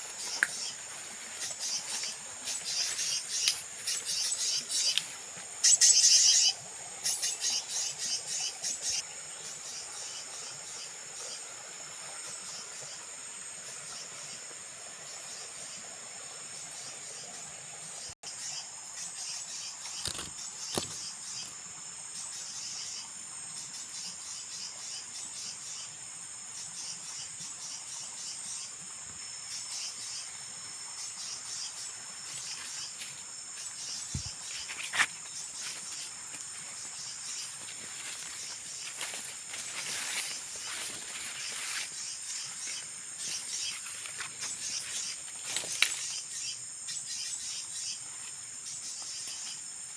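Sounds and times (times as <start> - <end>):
insects trilling: 0.0 - 17.4, 18.0 - 49.9.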